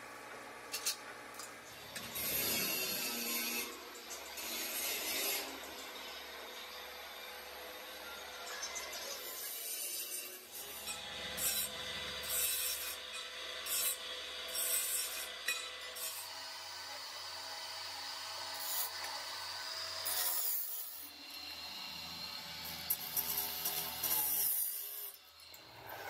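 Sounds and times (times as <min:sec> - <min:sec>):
saw disc grinding metal: 0:01.8 - 0:26.0.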